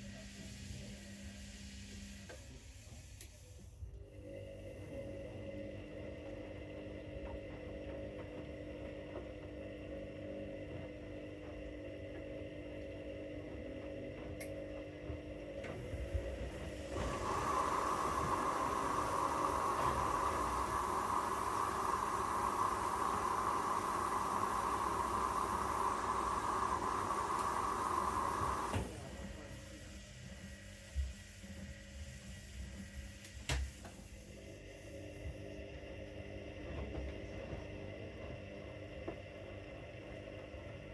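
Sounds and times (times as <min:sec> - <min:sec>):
washing machine hum: 0:00.0 - 0:40.9.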